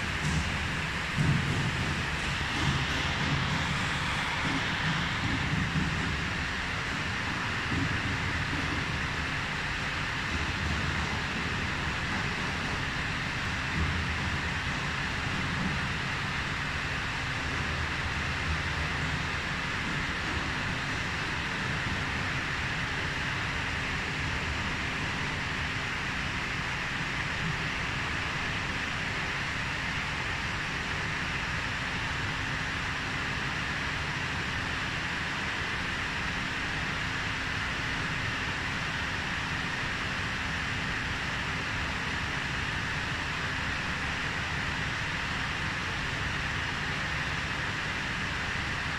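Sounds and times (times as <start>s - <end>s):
cooling fans whooshing: 0.0s - 48.9s
low constant hum: 0.0s - 48.9s.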